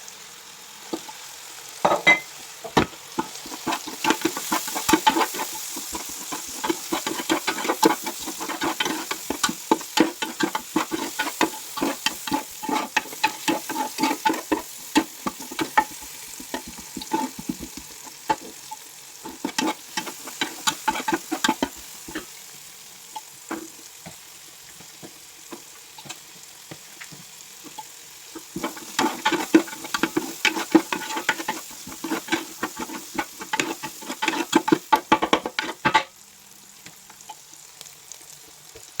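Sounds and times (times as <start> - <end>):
rice sizzling in a pan: 0.0 - 39.0
spatula scraping a pan: 3.1 - 22.4, 23.2 - 24.2, 24.8 - 36.1.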